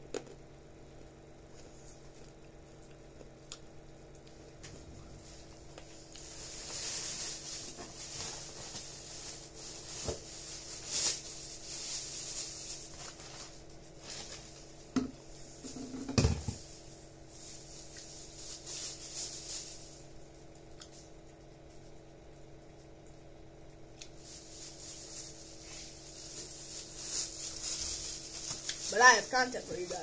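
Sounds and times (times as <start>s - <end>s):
faint hum and hiss: 0.0s - 30.0s.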